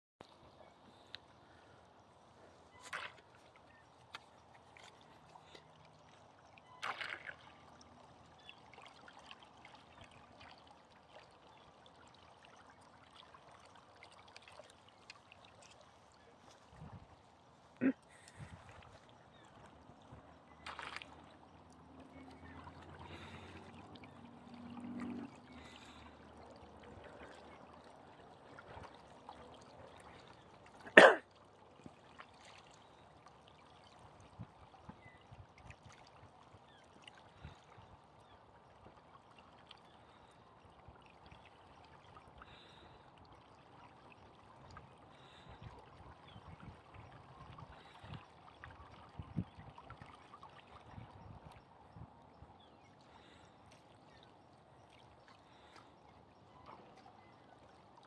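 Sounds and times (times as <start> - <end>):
water lapping and trickling: 0.2 - 58.0.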